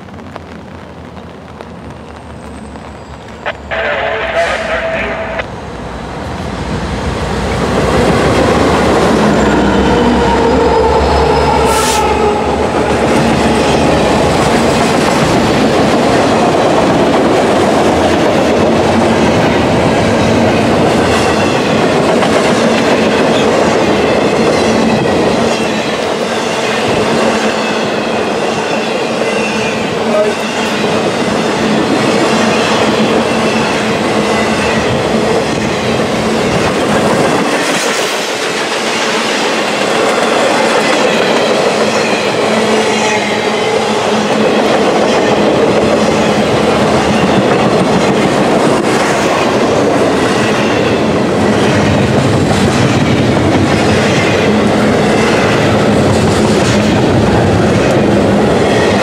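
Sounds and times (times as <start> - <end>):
freight train passing: 0.0 - 59.0
wheels rumbling on rails: 0.0 - 59.0.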